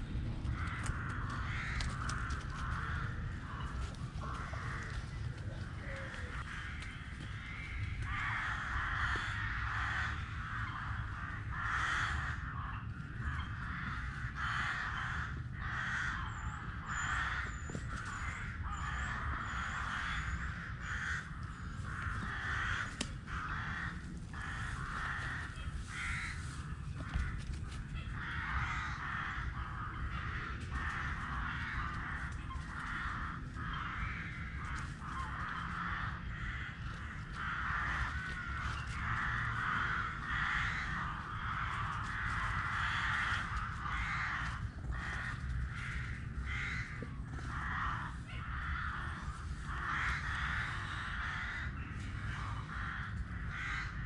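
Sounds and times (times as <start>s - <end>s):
crows cawing: 0.0s - 54.0s.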